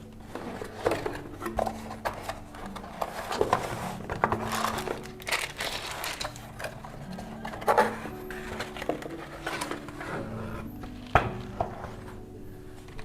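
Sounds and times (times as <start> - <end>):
packaging rustling and crinkling: 0.0 - 13.0
quiet background music: 0.0 - 13.0.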